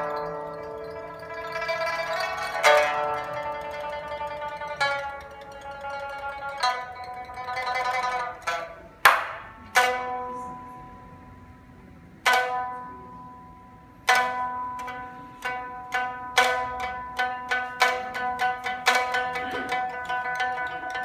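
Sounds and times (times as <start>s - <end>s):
pipa playing: 0.0s - 11.2s, 12.2s - 21.0s.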